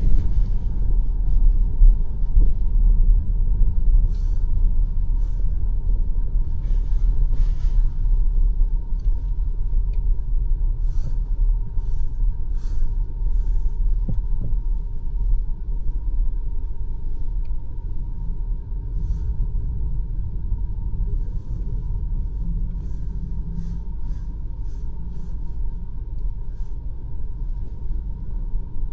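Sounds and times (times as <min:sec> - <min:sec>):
car driving rumble on snow: 0:00.0 - 0:28.9.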